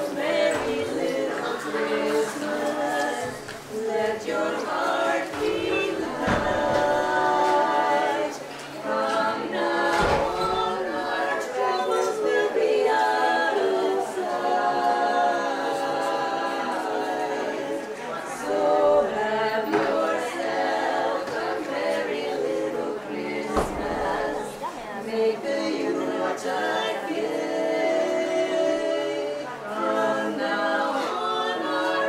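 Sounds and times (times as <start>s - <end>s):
group singing unaccompanied: 0.0s - 32.0s.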